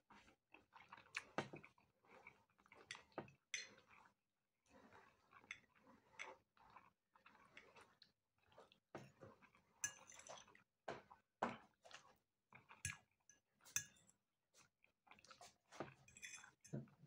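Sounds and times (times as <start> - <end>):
person chewing food: 0.2 - 4.2, 4.8 - 13.2, 14.0 - 16.6.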